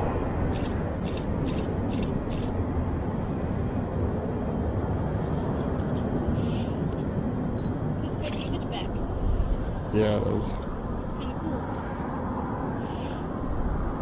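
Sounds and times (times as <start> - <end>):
distant freight train rumble: 0.0 - 14.0.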